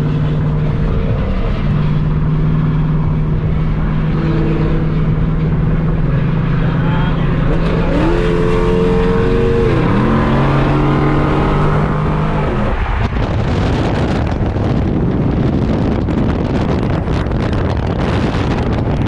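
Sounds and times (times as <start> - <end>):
car engine running: 0.0 - 19.0
wind and road noise: 0.0 - 19.0.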